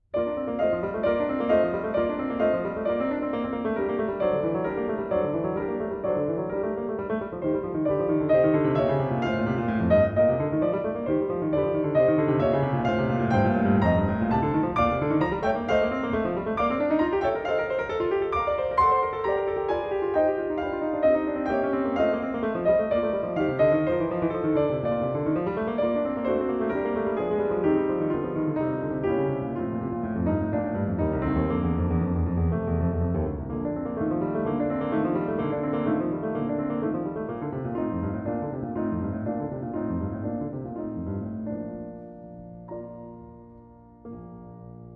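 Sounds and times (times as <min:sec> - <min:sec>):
piano music with rippling runs: 0:00.2 - 0:44.9.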